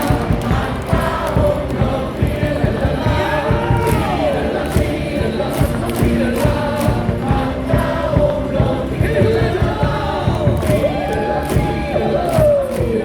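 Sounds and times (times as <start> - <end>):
loud amplified music with beat: 0.0 - 13.0
stadium crowd singing: 0.0 - 13.0.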